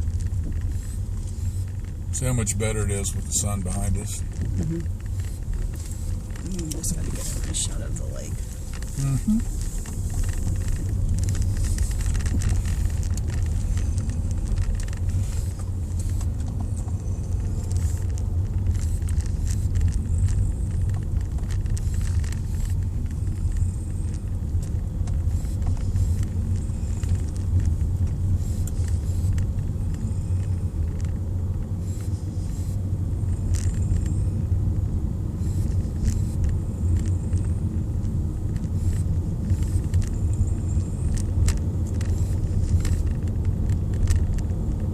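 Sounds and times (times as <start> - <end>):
small rattles and clicks: 0.0 - 34.2, 35.4 - 44.9
truck interior rumble: 0.0 - 44.9.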